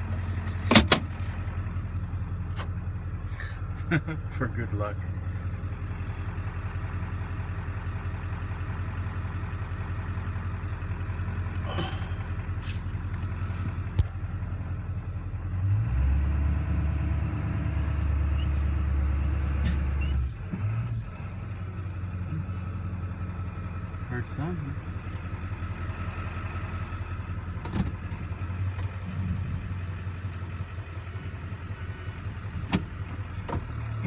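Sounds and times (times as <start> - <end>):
car engine idling: 0.0 - 15.8, 16.5 - 34.0
deep engine drone: 0.0 - 34.0.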